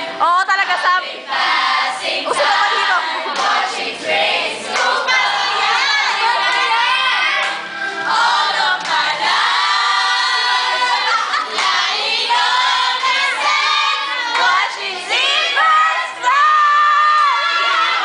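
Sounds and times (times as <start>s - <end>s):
girls singing in unison: 0.0s - 18.0s.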